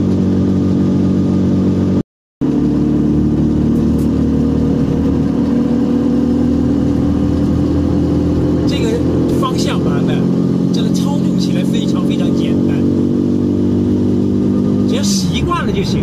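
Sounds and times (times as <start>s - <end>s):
engine drone from inside cabin: 0.0s - 12.9s.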